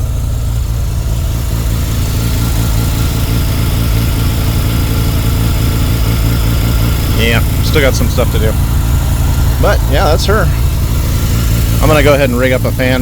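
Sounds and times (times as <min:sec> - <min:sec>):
rotary engine idling: 0:00.0 - 0:13.0.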